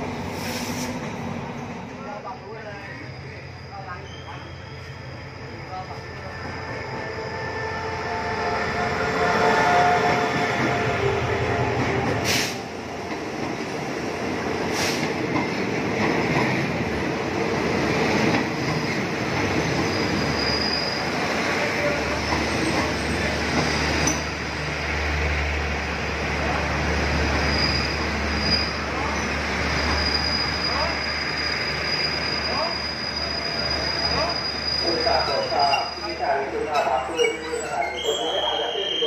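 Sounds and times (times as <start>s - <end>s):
diesel locomotive passing: 0.0s - 39.0s
passenger coaches rolling: 0.0s - 39.0s.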